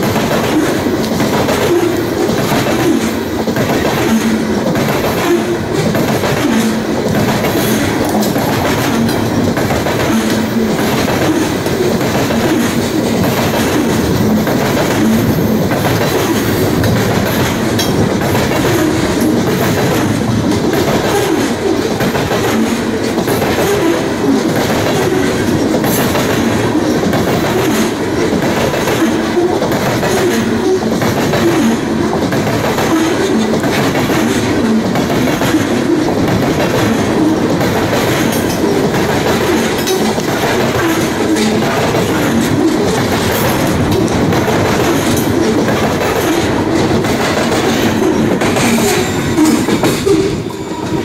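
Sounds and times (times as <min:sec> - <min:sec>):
train wheels clattering over rails: 0:00.0 - 0:51.0.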